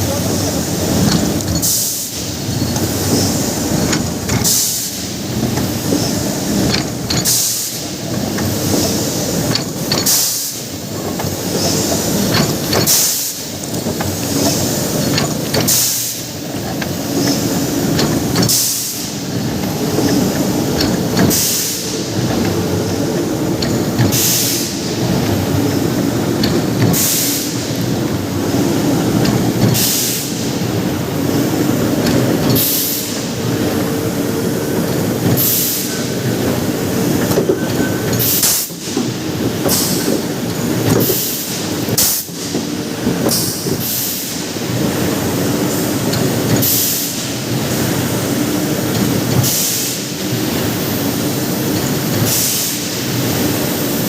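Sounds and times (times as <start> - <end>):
industrial machine running: 0.0 - 54.0.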